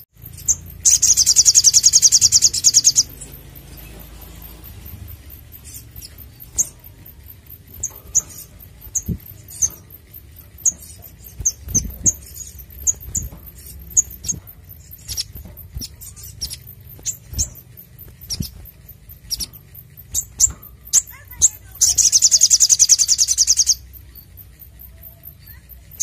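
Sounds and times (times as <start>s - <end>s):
bird high sharp chirps: 0.0s - 26.0s.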